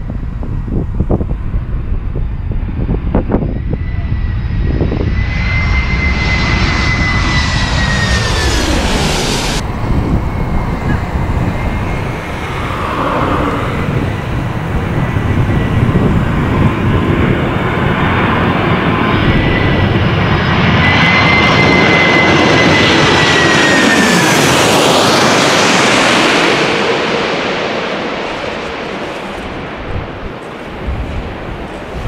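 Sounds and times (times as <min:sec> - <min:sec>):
high jet whine: 0:00.0 - 0:32.0
jet engine noise: 0:00.0 - 0:32.0.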